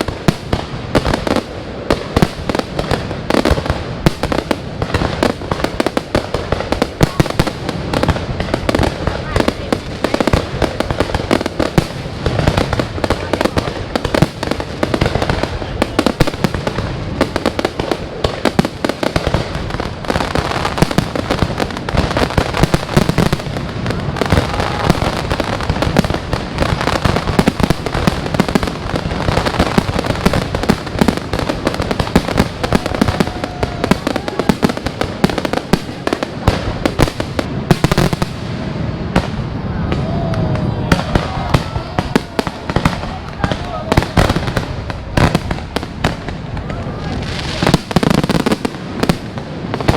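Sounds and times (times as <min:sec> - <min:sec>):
fireworks bursting and crackling: 0:00.0 - 0:49.9.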